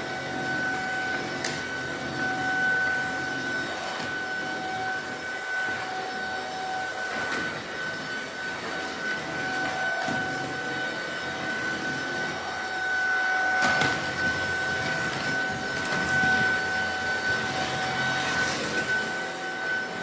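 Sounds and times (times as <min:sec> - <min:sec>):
stick vacuum running: 0:00.0 - 0:20.0.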